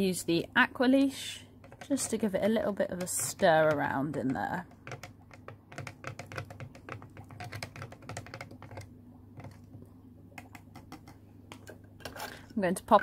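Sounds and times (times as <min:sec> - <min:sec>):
plastic stick stirring water: 0:01.2 - 0:13.0.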